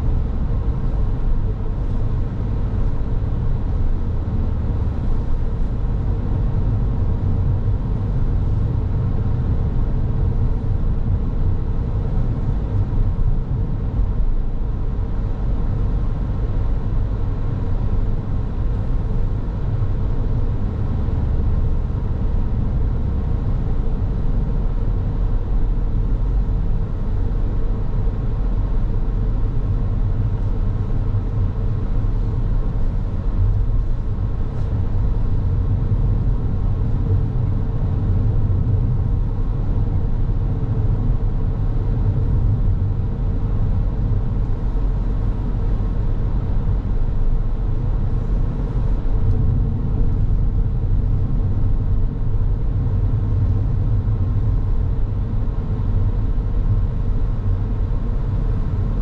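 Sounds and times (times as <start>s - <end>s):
car road and engine rumble: 0.0s - 59.0s
faint steady hum: 0.0s - 59.0s.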